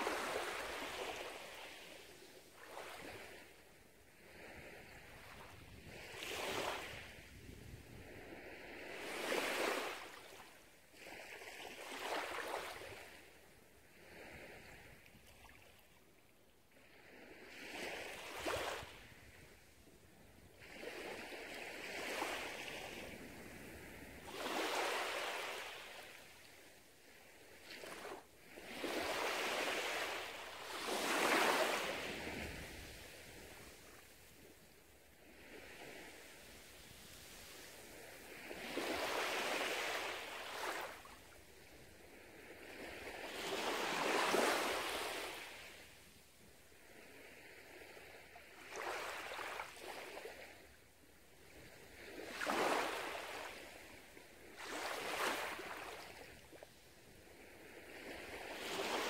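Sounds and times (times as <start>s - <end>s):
small waves washing on sand: 0.0s - 16.0s, 16.8s - 59.0s.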